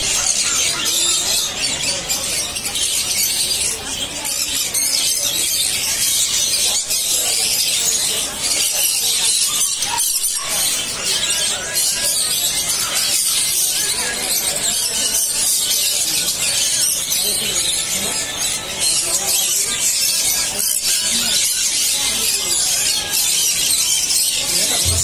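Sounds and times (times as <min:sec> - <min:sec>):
murmur of voices: 0:00.0 - 0:25.0
parrots chirping and squawking: 0:00.0 - 0:25.0.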